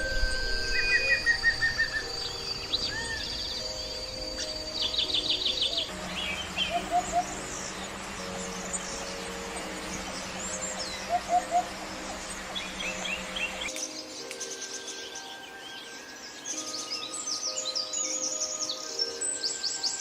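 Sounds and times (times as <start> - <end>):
birds chirping and calling: 0.0 - 20.0
forest background hiss: 0.0 - 20.0.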